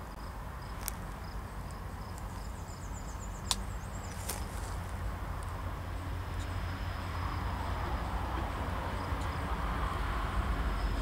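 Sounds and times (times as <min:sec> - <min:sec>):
distant freight train rumble: 0:00.0 - 0:11.0.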